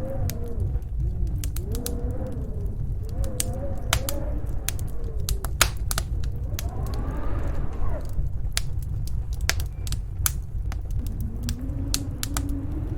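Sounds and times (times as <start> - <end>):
snowstorm wind howling: 0.0 - 12.9
wood fire crackling: 0.0 - 12.9.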